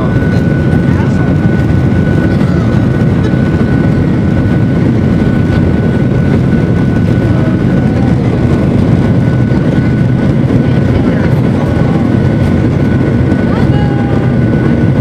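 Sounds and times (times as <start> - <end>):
jet engine noise in cabin: 0.0 - 15.0
thin steady whine: 0.0 - 15.0.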